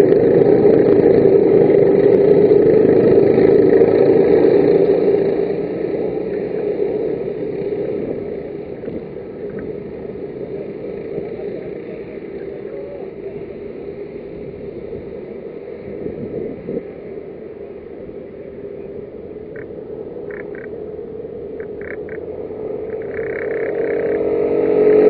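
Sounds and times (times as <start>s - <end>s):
racing kart engines droning: 0.0s - 25.0s.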